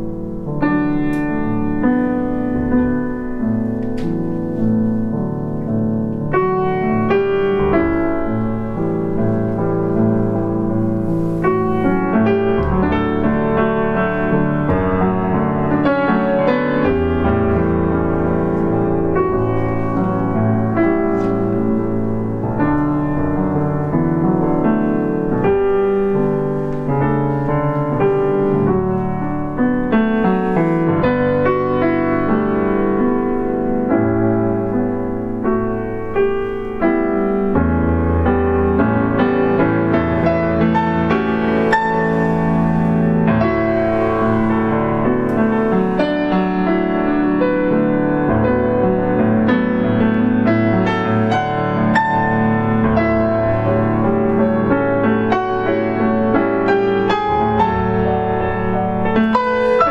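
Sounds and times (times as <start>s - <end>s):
solo grand piano piece: 0.0s - 59.9s.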